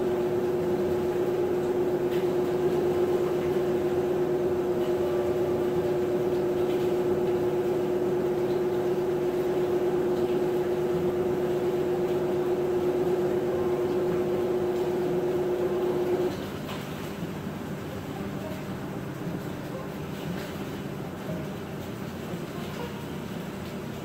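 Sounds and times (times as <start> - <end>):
washing machine motor hum: 0.0 - 24.0.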